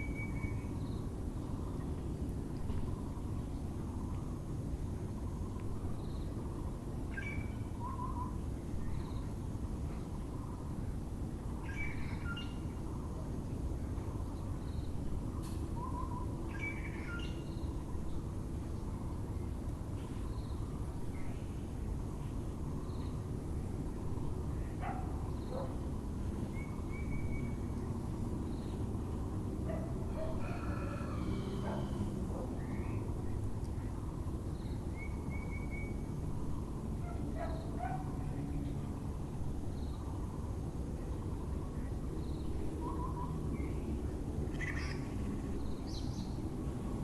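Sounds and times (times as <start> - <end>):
low background rumble: 0.0 - 47.0.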